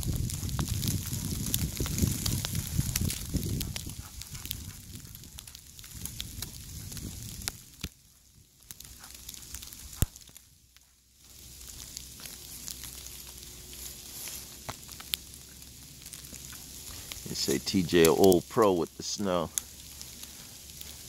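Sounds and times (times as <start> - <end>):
snow crunching: 0.0 - 21.0.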